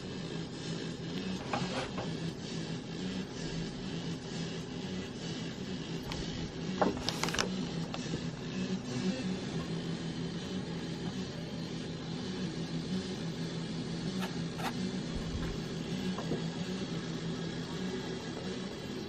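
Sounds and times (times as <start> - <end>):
low pulsing drone: 0.0 - 19.0.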